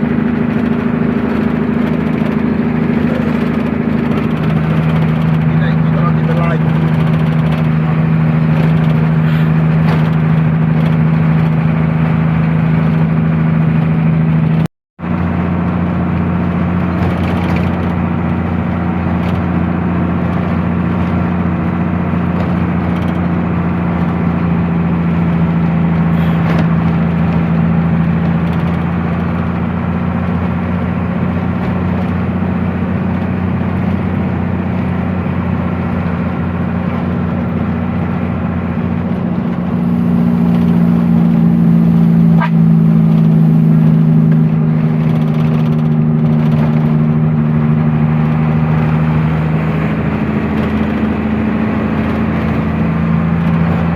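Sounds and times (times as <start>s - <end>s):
truck engine drone: 0.0s - 53.9s.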